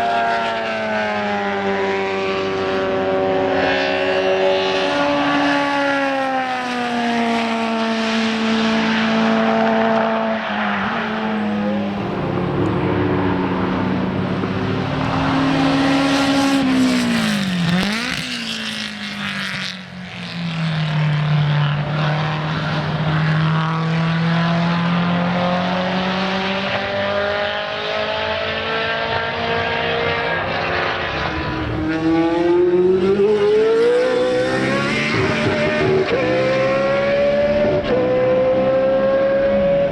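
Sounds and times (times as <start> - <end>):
racing car engines revving: 0.0 - 39.9.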